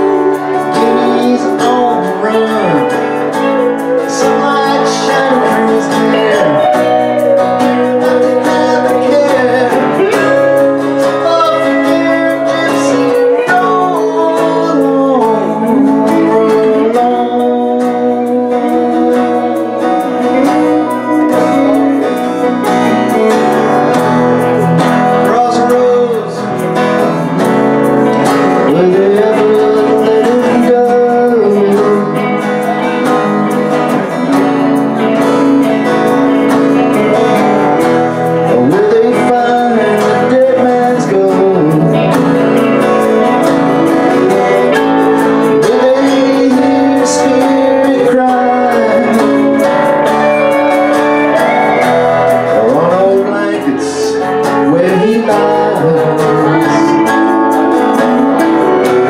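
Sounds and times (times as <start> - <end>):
electric guitar: 0.0 - 59.0
person singing: 0.0 - 59.0
strummed acoustic guitar: 0.0 - 59.0.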